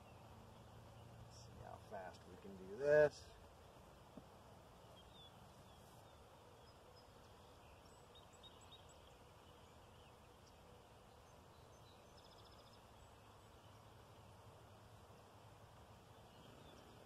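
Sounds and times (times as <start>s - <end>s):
faint bird chirps: 3.2s - 17.0s.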